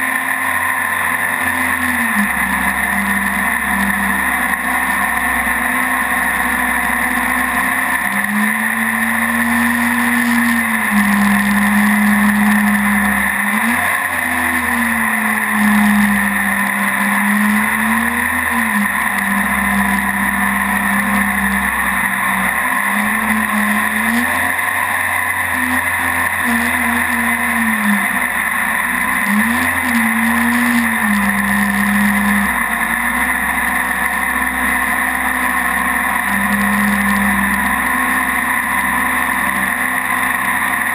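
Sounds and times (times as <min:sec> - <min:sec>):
jet boat engine running: 0:00.0 - 0:40.9.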